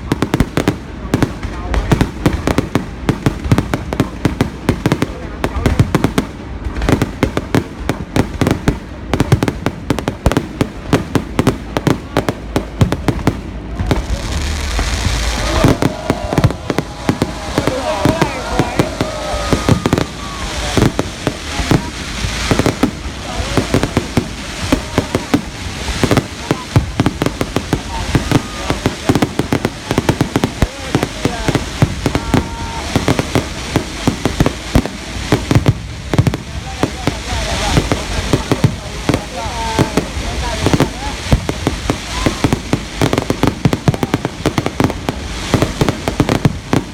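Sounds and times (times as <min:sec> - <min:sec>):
fireworks bangs: 0:00.0 - 0:46.9
fireworks hiss: 0:00.0 - 0:46.9.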